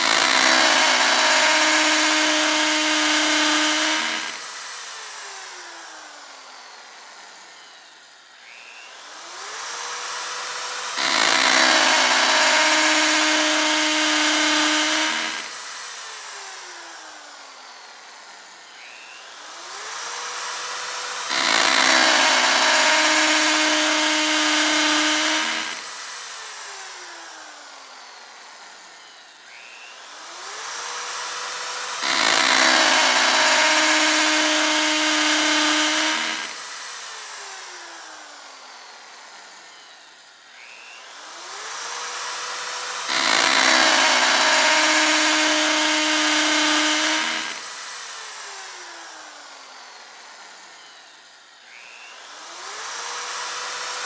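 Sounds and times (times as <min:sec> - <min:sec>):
electric drill whining: 0:00.0 - 0:54.0.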